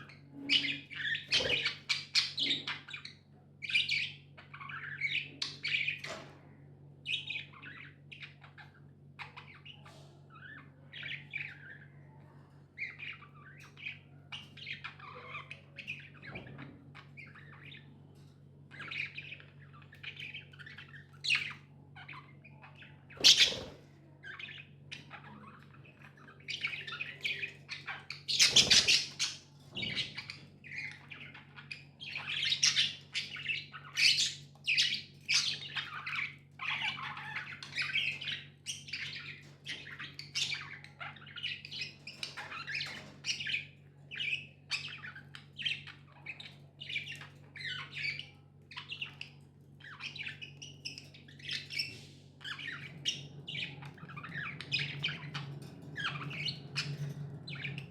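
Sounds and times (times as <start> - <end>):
budgerigars chirping and chattering: 0.0 - 57.9.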